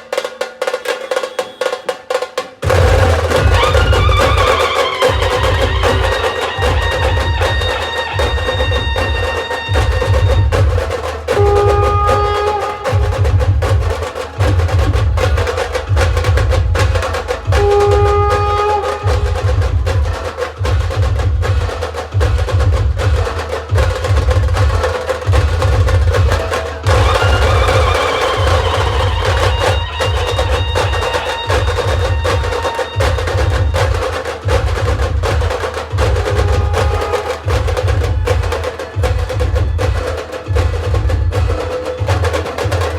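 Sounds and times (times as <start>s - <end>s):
fast stick strokes on drums: 0.0s - 42.9s
heavy drum beats: 0.0s - 42.9s.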